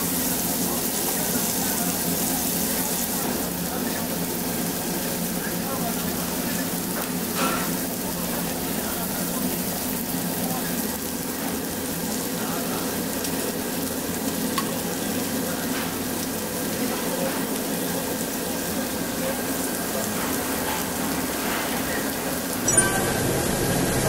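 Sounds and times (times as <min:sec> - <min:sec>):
meat sizzling on a grill: 0:00.0 - 0:24.0.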